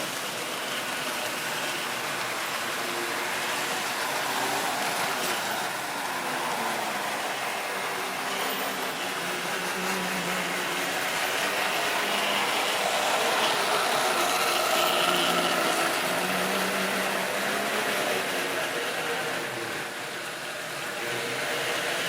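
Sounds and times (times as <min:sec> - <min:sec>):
model train motor humming: 0:00.0 - 0:22.0
train wheels rolling on rails: 0:00.0 - 0:22.0.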